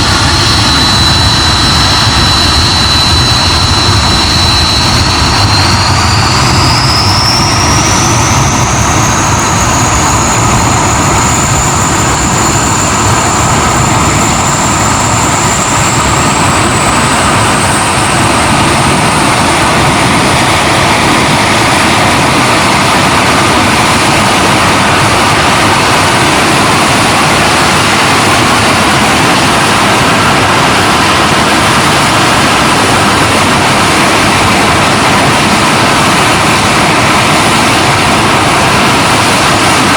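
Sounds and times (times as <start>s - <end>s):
jet engine roaring with whine: 0.0s - 39.9s.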